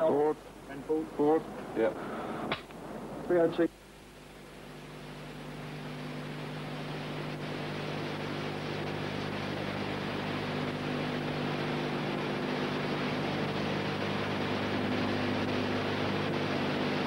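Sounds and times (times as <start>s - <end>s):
low hum with tape hiss: 0.0s - 17.0s.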